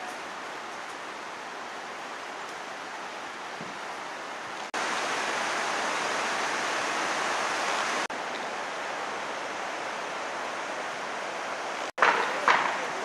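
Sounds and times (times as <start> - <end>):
steady rushing outdoor noise: 0.0 - 13.0.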